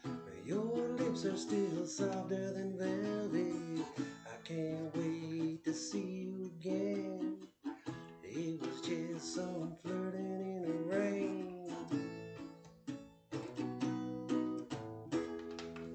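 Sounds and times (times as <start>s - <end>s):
acoustic guitar strumming chords: 0.0s - 15.9s.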